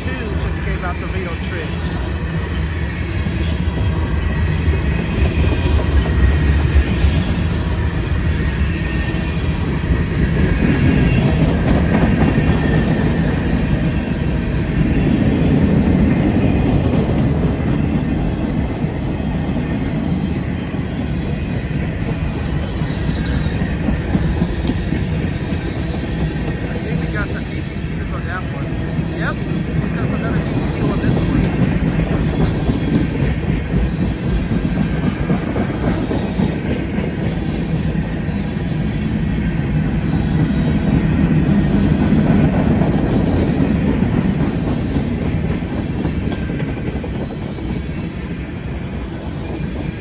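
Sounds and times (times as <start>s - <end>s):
steel wheels rumbling on rail: 0.0s - 50.0s.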